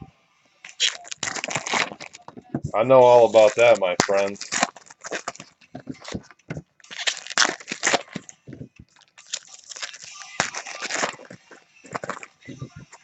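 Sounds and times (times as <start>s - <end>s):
wrappers tearing and crinkling: 0.6s - 13.0s.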